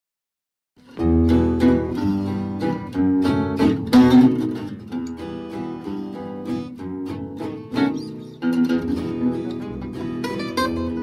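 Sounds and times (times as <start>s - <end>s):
acoustic guitar music: 0.8s - 11.0s.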